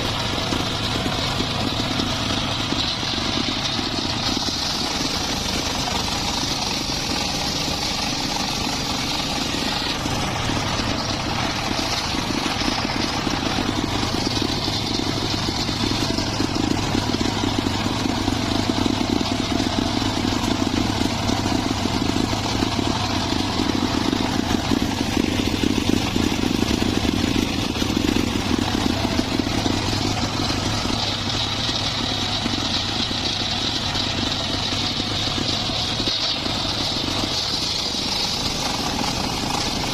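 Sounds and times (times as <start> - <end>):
circular saw engine running: 0.0 - 39.9.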